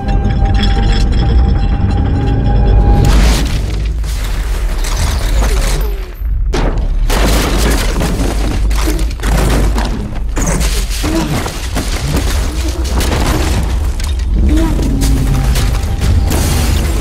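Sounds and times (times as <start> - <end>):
debris crashing: 0.0 - 17.0
deep continuous rumble: 0.0 - 17.0
wood and glass shattering: 0.0 - 17.0.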